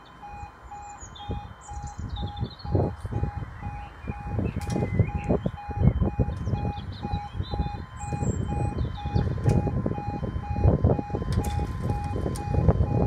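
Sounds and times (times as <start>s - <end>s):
level crossing alarm beeping: 0.0s - 13.0s.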